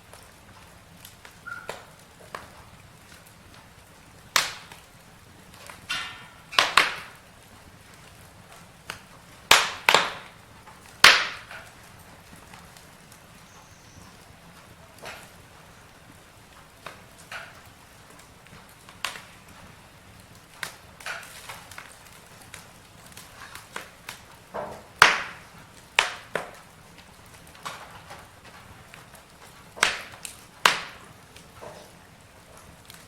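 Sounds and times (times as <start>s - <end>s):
campfire wood crackling: 0.0s - 33.0s.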